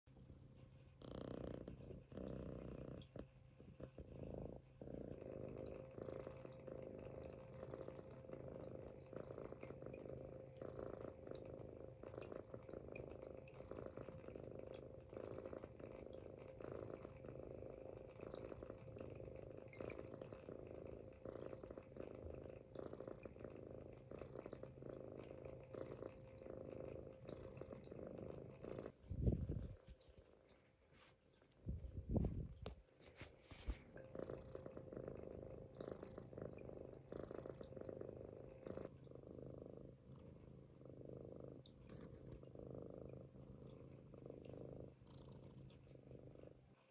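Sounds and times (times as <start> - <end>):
kitten snoring softly: 0.1 - 46.9.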